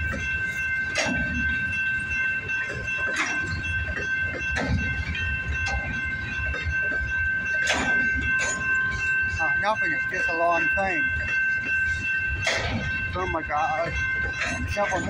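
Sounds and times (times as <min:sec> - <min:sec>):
freight train rumbling past: 0:00.0 - 0:15.0
steady high-pitched tone: 0:00.0 - 0:15.0
train wheels clacking on rail joints: 0:00.0 - 0:15.0.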